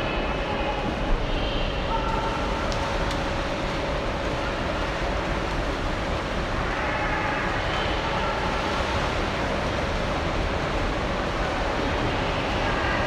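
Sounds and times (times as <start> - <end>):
indoor swimming pool hall noise: 0.0 - 13.0.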